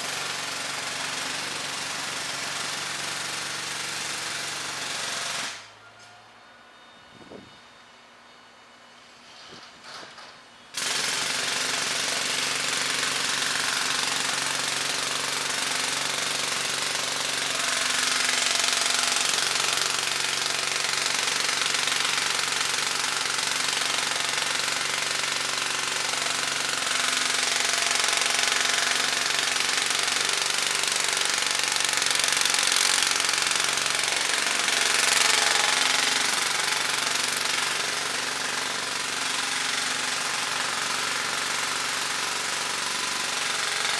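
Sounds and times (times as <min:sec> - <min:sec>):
jackhammer hammering: 0:00.0 - 0:05.7, 0:10.7 - 0:43.9.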